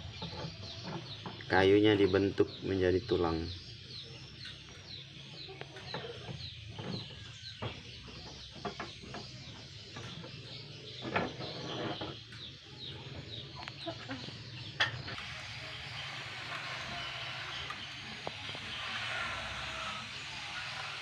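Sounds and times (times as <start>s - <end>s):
chickens clucking: 4.1s - 21.0s.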